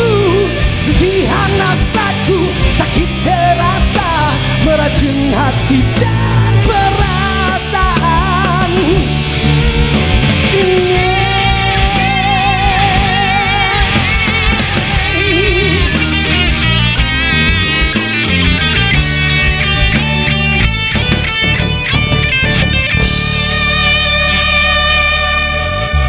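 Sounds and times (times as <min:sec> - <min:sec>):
drums and bass: 0:00.0 - 0:26.0
lead guitar with vibrato: 0:00.0 - 0:26.0.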